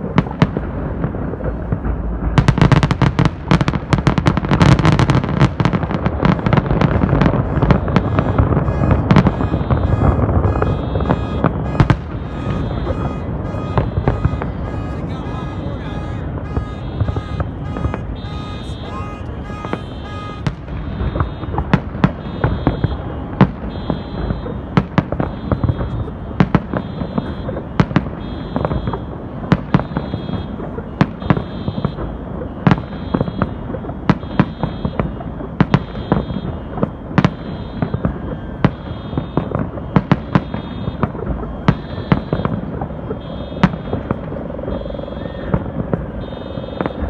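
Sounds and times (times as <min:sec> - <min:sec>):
fireworks bangs: 0:00.0 - 0:47.0
low rumble of fireworks: 0:00.0 - 0:47.0.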